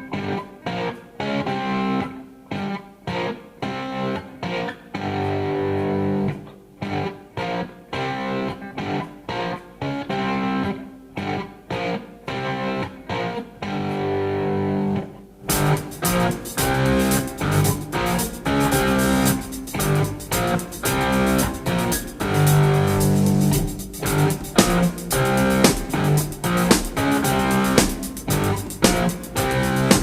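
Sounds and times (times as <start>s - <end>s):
guitar playing chopped notes: 0.0s - 30.0s.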